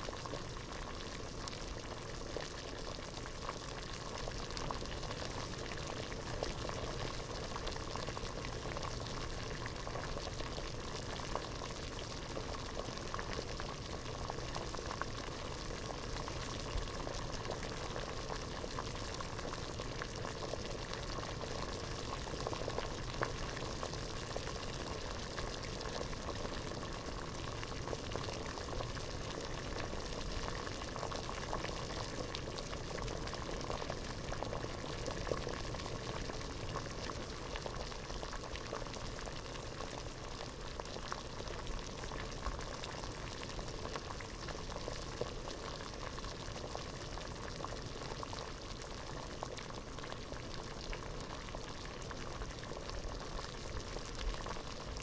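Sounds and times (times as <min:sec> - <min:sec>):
water boiling in a pot: 0:00.0 - 0:55.0.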